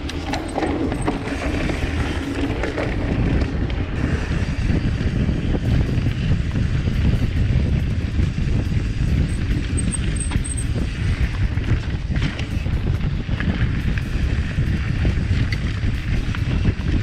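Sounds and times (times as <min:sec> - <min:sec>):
bike clicks and rattles: 0:00.0 - 0:17.0
tyres rumbling on dirt trail: 0:00.0 - 0:17.0
wind buffeting microphone: 0:00.0 - 0:17.0.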